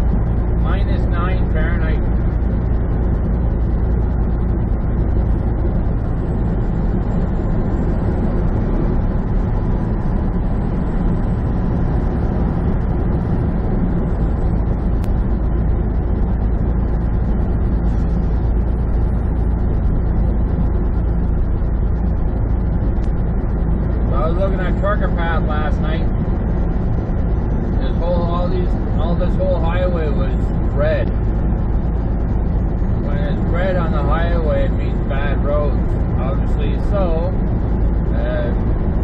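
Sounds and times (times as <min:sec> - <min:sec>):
diesel truck engine drone: 0:00.0 - 0:39.0
tyre and road noise: 0:00.0 - 0:39.0.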